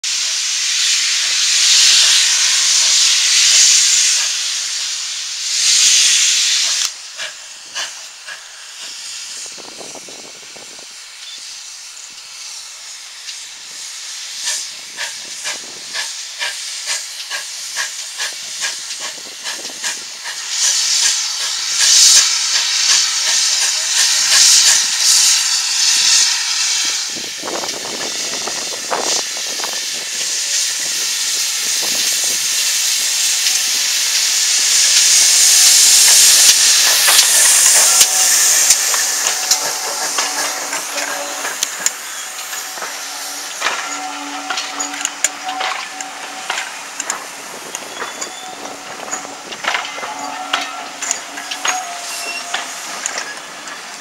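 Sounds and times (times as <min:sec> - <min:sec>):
steam hissing: 0:00.0 - 0:54.0
steam locomotive chuffing: 0:00.1 - 0:54.0.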